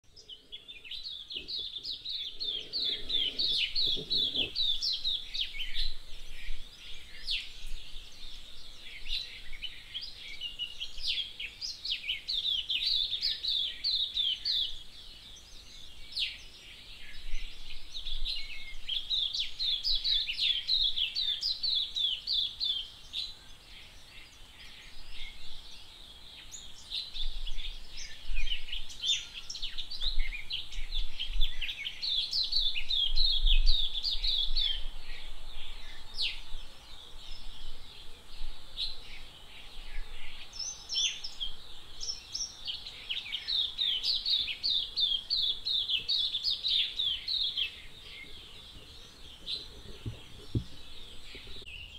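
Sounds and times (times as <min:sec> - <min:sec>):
birds chirping and twittering: 0:00.0 - 0:51.9.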